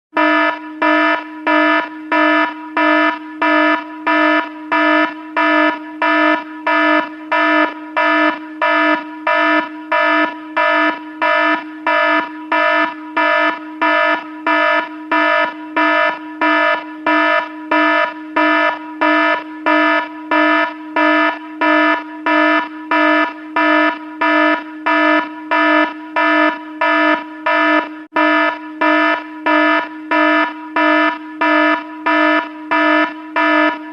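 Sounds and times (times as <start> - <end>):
warning alarm beeping: 0.1 - 33.9.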